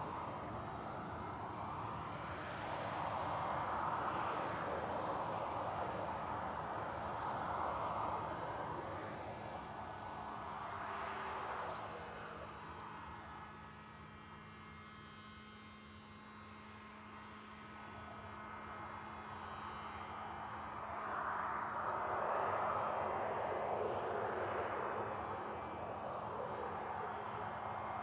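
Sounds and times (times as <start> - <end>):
distant jet engines whining: 0.0 - 28.0.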